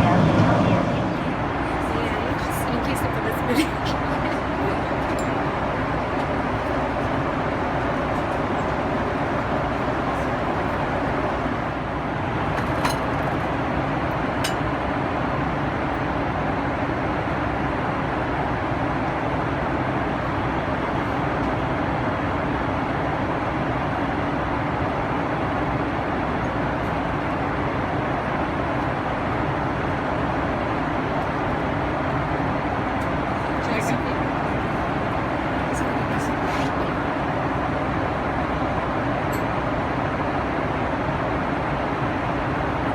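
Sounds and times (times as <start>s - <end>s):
airplane cabin noise: 0.0s - 42.9s.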